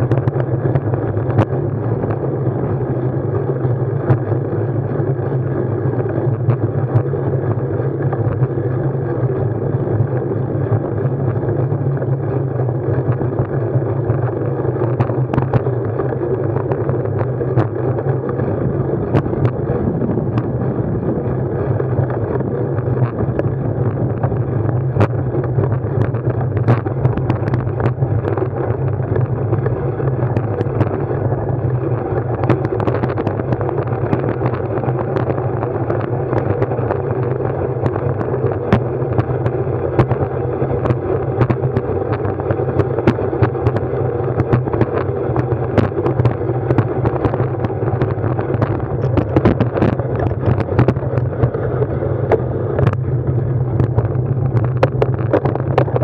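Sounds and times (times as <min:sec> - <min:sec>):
vehicle ride hum: 0:00.0 - 0:56.0
wind on microphone: 0:00.0 - 0:56.0.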